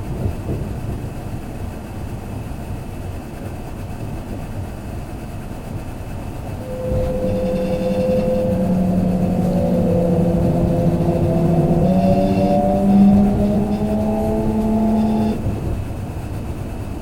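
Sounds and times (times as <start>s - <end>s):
train wheels rumbling on rails: 0.0s - 17.0s
train motors humming: 0.1s - 17.0s.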